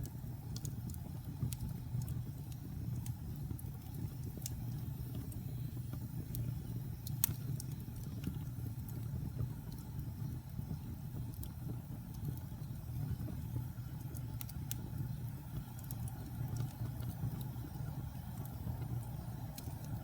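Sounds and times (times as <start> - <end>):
fire crackling and popping: 0.0 - 20.0
wood fire rumbling: 0.0 - 20.0.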